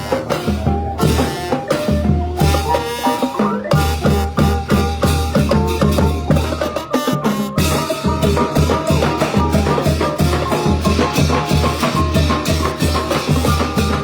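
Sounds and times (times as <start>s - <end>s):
bass drum and percussion beat: 0.0s - 14.0s
brass band horns: 0.0s - 14.0s.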